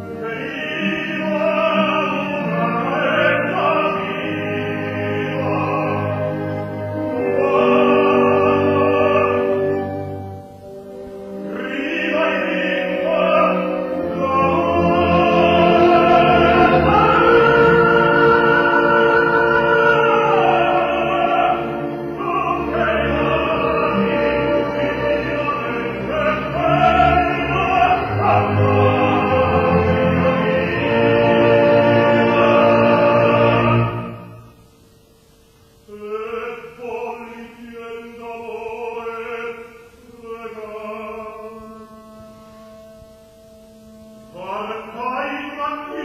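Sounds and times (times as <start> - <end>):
operatic tenor singing: 0.0 - 34.6, 35.8 - 46.0
orchestra playing: 0.0 - 34.6, 40.8 - 46.0.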